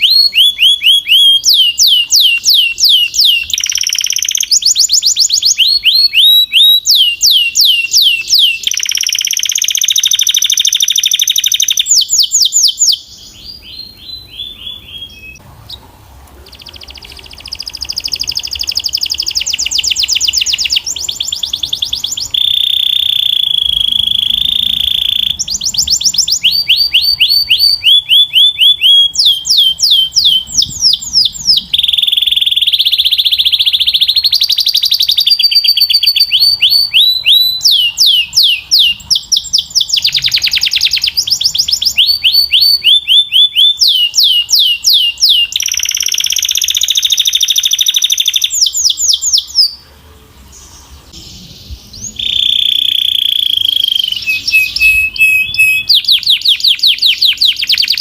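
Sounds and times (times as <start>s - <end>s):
canary singing fast trills: 0.0s - 49.8s, 50.4s - 58.0s.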